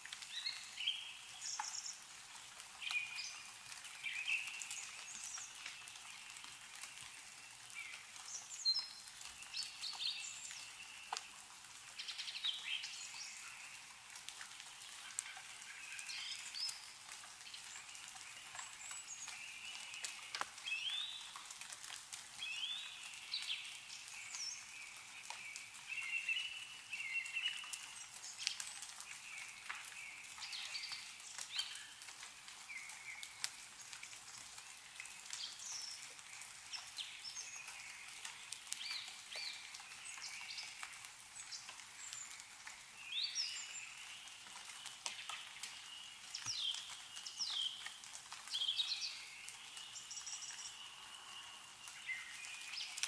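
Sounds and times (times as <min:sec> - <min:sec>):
meltwater dripping: 0:00.0 - 0:53.0
songbirds chirping: 0:00.0 - 0:53.0.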